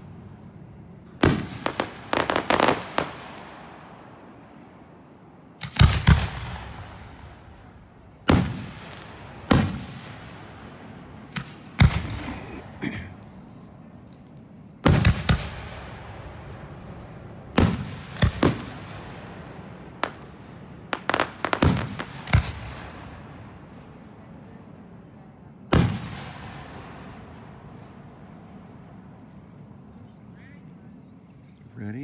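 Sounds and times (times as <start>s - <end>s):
firework shells booming with echo: 0.0s - 14.0s, 14.6s - 30.2s.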